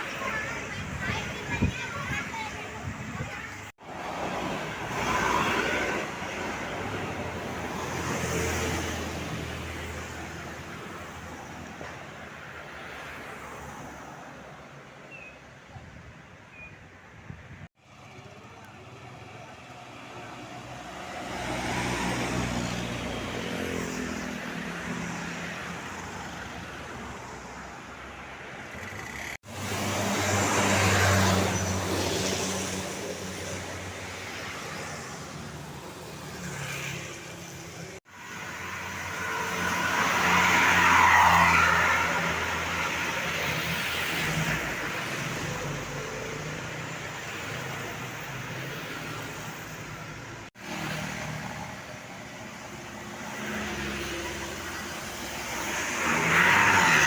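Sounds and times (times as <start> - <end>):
heavy vehicles passing: 0.0 - 15.0, 17.6 - 57.0
tyre noise on road: 0.0 - 57.0.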